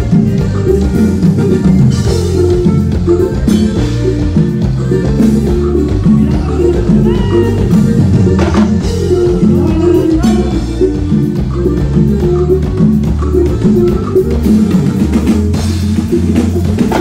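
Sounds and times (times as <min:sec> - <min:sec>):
dance band playing through pa: 0:00.0 - 0:17.0
drum kit: 0:00.0 - 0:17.0
electric bass: 0:00.0 - 0:17.0
guitar strumming: 0:00.0 - 0:17.0.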